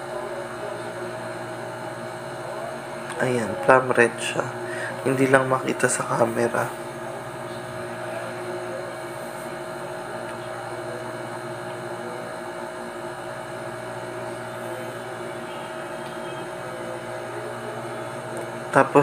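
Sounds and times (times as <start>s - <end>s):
appliance electric hum: 0.0s - 19.0s.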